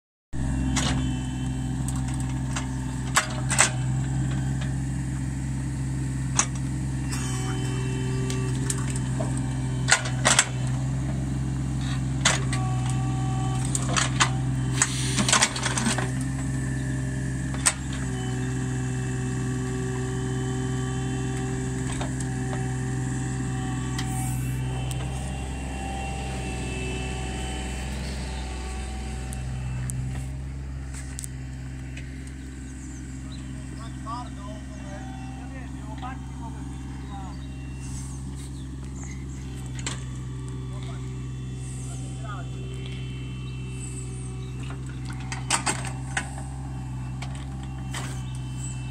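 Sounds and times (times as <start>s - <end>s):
diesel engine running: 0.3s - 48.9s
hydraulic whine: 0.4s - 48.9s.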